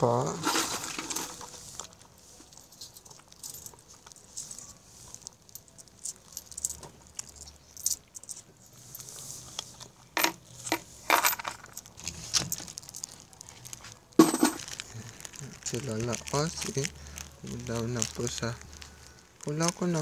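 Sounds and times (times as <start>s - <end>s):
handling clicks and rustles: 0.4s - 20.0s.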